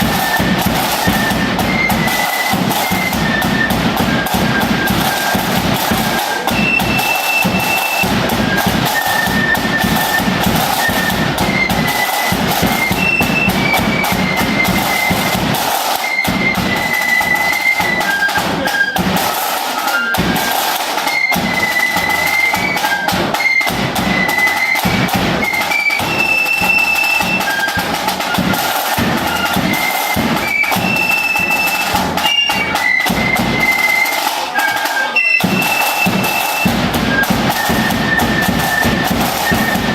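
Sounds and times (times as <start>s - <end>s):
flutes playing a march: 0.0s - 39.9s
snare drum rolls: 0.0s - 39.9s.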